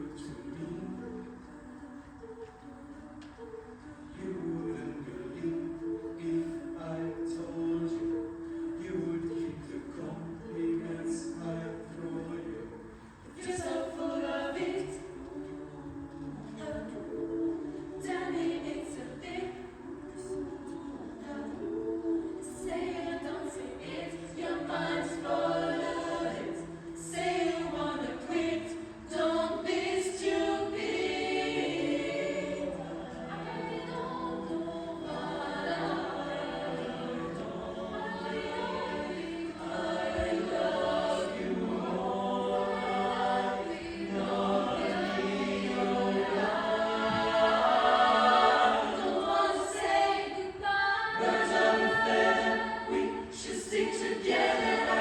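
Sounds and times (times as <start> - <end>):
a cappella vocal ensemble singing: 0.0 - 55.0.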